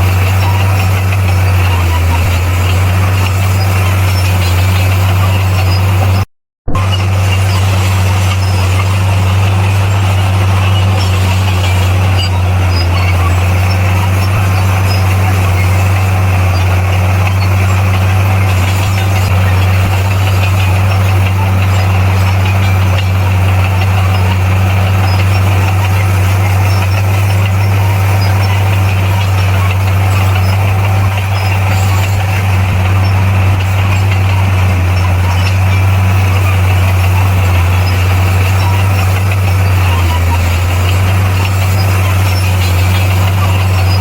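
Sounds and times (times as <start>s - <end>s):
bulldozer diesel engine droning: 0.0s - 44.0s.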